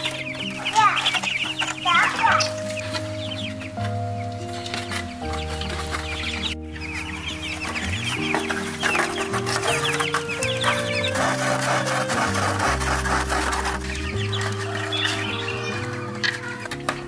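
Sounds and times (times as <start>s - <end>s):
chickens clucking: 0.0s - 17.0s
slow background music: 0.0s - 17.0s.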